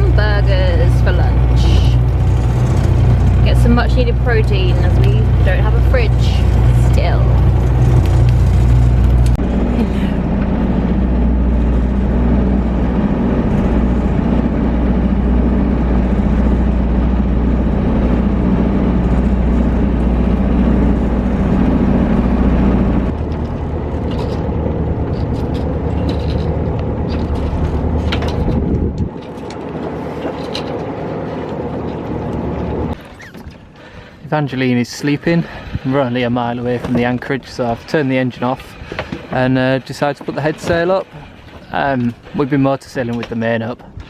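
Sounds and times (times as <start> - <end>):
boat engine running: 0.0 - 44.0.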